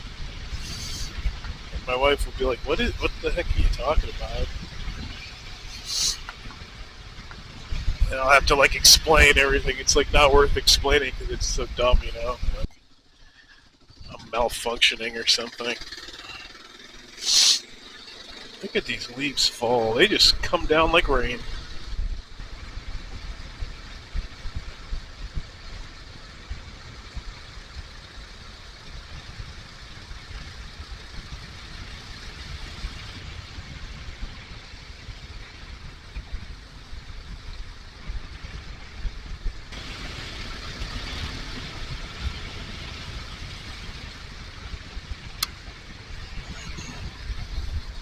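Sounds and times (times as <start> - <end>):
wind buffeting microphone: 0.0 - 15.0, 18.7 - 48.0
motorcycle engine running: 0.0 - 48.0.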